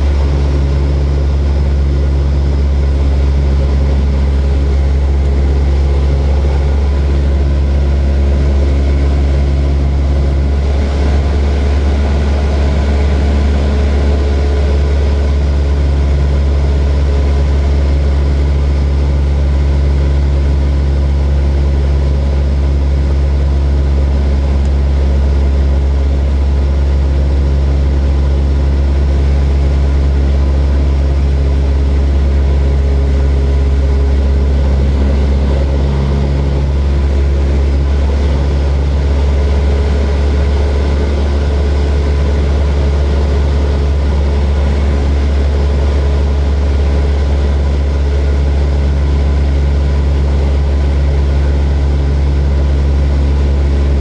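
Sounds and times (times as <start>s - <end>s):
propeller airplane engine droning: 0.0s - 54.0s.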